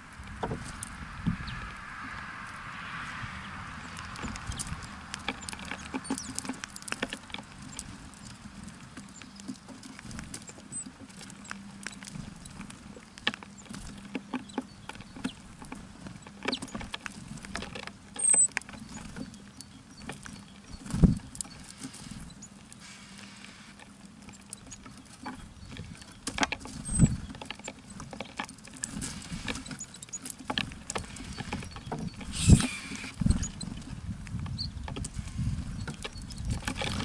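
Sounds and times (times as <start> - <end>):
birds pecking and hopping: 0.0 - 37.0.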